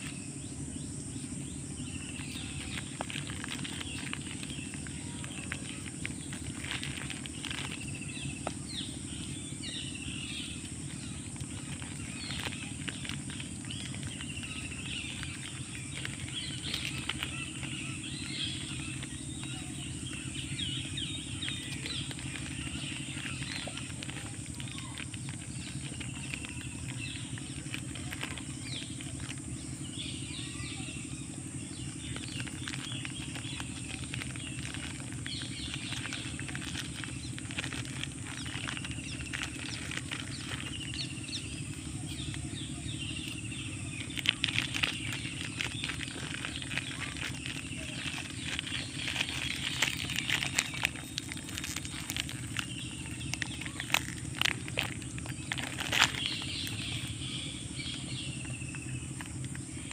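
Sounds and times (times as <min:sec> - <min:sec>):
birds chirping: 0:00.0 - 0:59.9
steady hum: 0:00.0 - 0:59.9.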